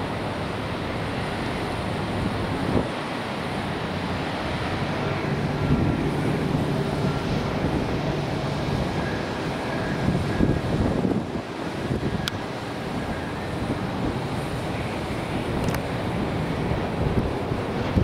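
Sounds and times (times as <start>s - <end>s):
jet engines running: 0.0s - 18.0s
wind on microphone: 0.0s - 18.0s.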